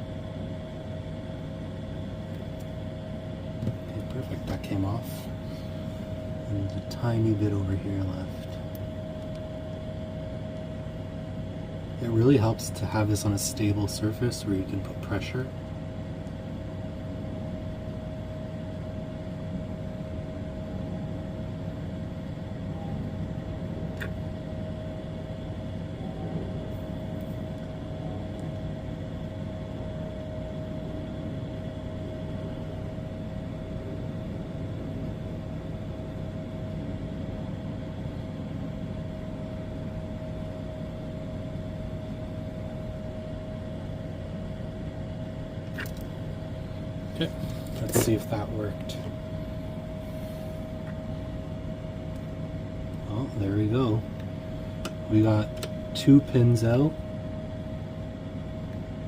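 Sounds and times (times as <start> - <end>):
constant whine: 0.0 - 59.0
machine hum: 0.0 - 59.0.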